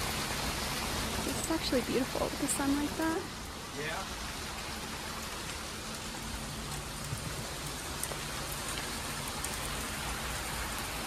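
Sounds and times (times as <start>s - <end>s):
rain falling on a deck: 0.0s - 11.0s.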